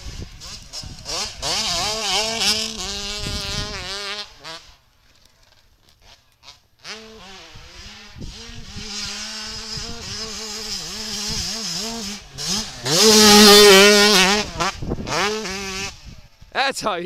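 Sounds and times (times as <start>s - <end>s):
dirt bike engine revving: 0.0s - 16.5s.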